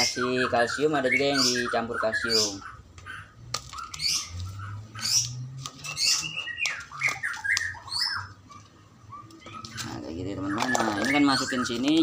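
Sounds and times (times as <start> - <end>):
bird chirps and squawks: 0.0 - 12.0.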